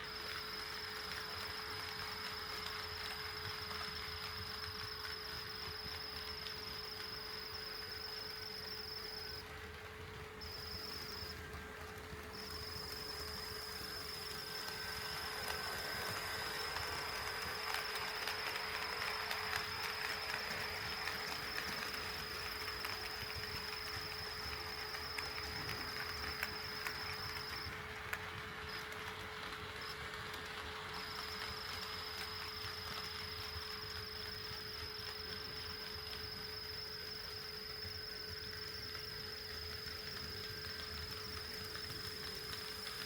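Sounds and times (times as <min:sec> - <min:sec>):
model train electrical whine: 0:00.0 - 0:43.0.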